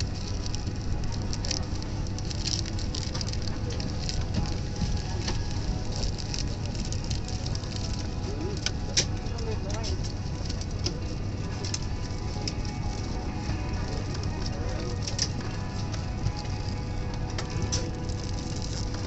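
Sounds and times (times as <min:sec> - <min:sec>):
cabin air system hum: 0:00.0 - 0:19.0.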